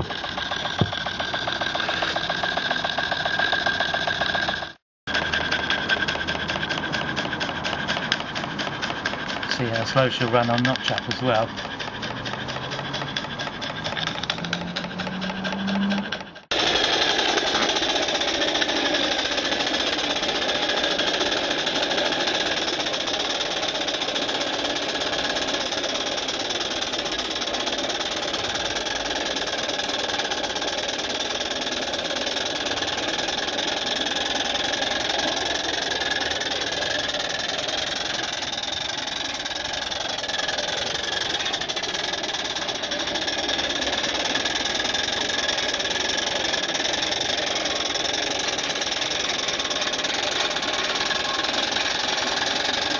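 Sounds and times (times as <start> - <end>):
model steam engine exhaust beats: 0.0 - 52.9.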